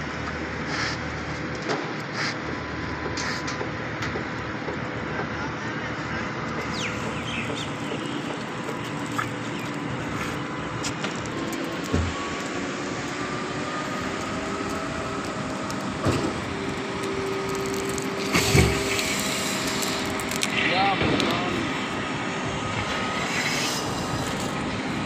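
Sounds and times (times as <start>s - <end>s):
concrete pump rushing water: 2.1s - 25.0s.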